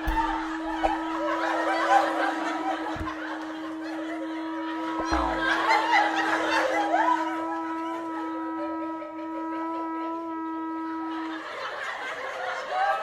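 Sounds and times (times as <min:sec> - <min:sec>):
sustained wind instrument chord: 0:00.0 - 0:11.7.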